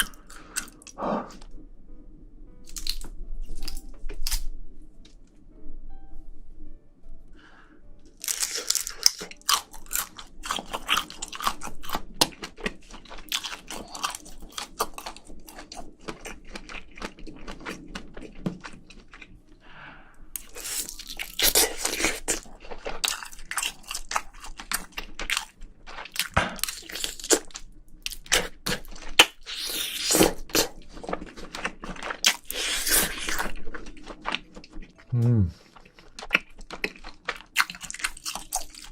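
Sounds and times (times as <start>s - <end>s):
person chewing crunchy food: 0.0s - 1.5s, 2.7s - 4.5s, 8.1s - 19.4s, 20.4s - 38.9s.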